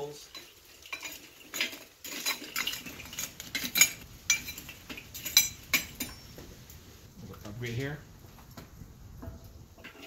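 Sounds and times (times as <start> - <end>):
spatula scraping charcoal: 0.0 - 10.0.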